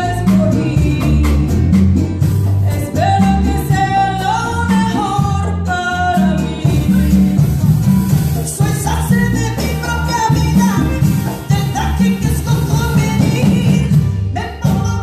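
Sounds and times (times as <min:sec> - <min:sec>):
woman singing: 0:00.0 - 0:02.0, 0:02.6 - 0:07.4, 0:08.5 - 0:15.0
acoustic guitar: 0:00.0 - 0:15.0
percussion beat: 0:00.0 - 0:15.0.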